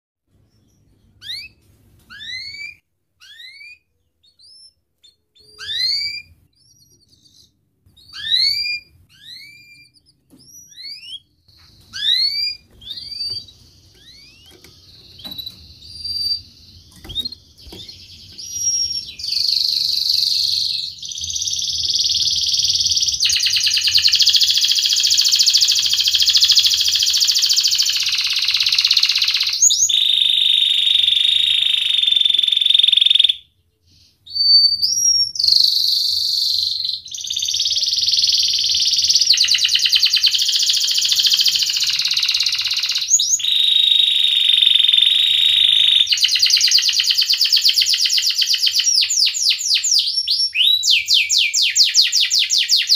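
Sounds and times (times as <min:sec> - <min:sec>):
canary singing and trilling: 0:00.3 - 0:52.9.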